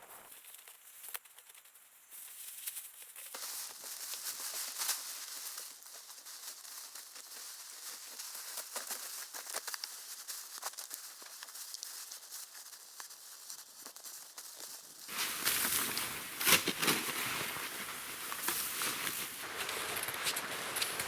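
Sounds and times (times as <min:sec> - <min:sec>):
crinkly rustling and crunching: 0:00.0 - 0:21.0.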